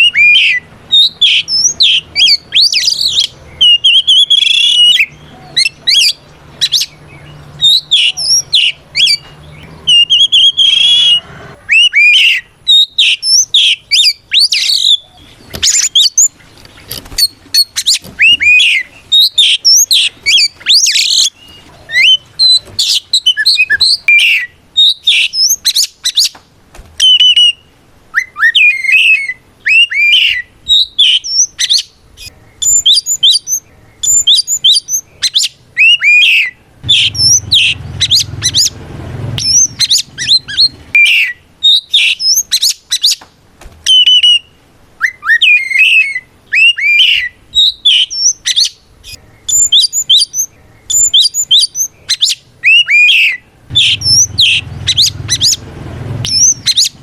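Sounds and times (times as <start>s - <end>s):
bird singing whistles and chirps: 0.0s - 26.4s, 27.0s - 38.8s, 39.4s - 43.2s, 43.8s - 55.6s, 56.2s - 57.0s.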